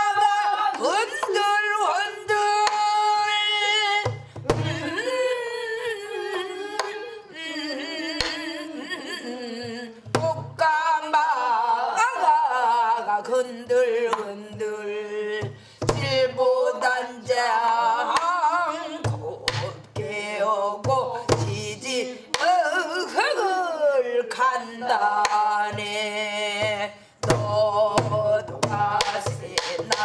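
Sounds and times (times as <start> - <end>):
woman singing with vibrato: 0.0 - 30.0.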